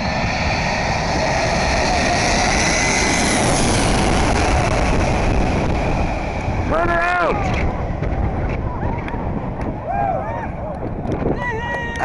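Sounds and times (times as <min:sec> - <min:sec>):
jet engines roaring and whining: 0:00.0 - 0:12.0.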